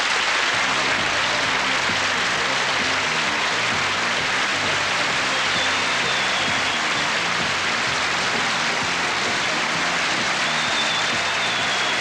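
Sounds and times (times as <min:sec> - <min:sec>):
faint music: 0:00.0 - 0:12.0
studio audience applauding: 0:00.0 - 0:12.0.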